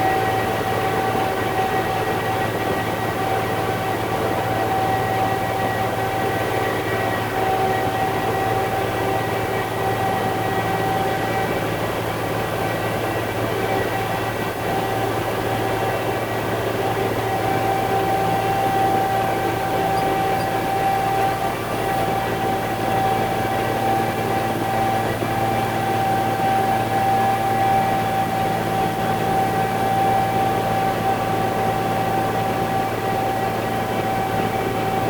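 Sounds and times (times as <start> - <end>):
concrete mixer truck engine drone: 0.0 - 35.0.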